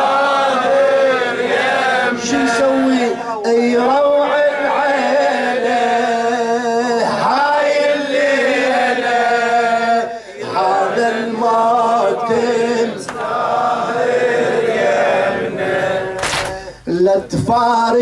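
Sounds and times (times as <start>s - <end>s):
men chanting a lament: 0.0s - 18.0s.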